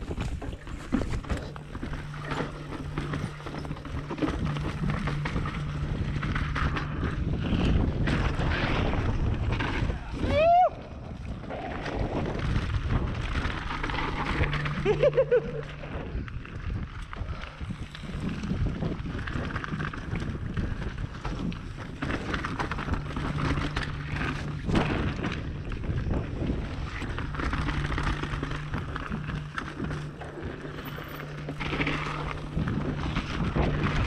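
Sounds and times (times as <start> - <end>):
bike rattling and knocking: 0.0 - 10.5, 11.2 - 34.0
tyres rolling over dirt: 0.0 - 10.6, 11.3 - 34.0
steady low hum: 0.0 - 34.0
wind buffeting microphone: 0.0 - 34.0.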